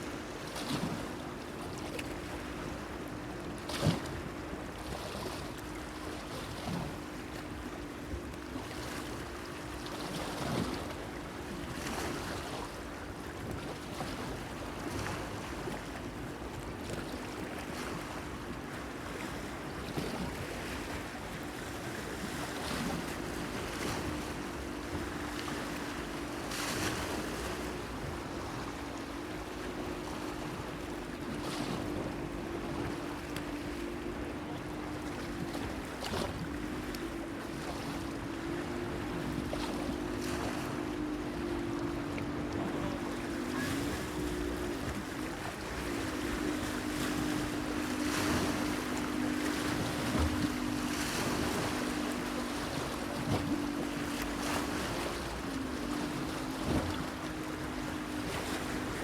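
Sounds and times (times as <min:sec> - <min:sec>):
waves lapping against pier: 0:00.0 - 0:59.0.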